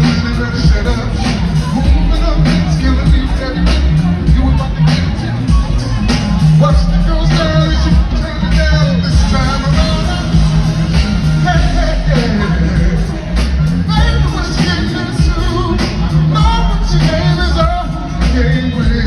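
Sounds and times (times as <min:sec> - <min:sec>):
heavy bass line: 0:00.0 - 0:19.0
person singing: 0:00.0 - 0:19.0.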